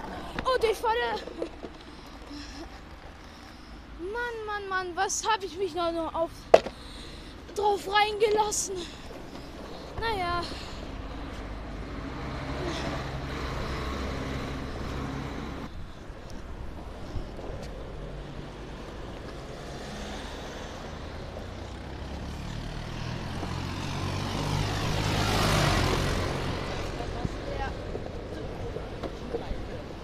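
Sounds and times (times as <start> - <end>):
longboard wheels rolling on pavement: 0.0 - 4.4, 7.4 - 30.0.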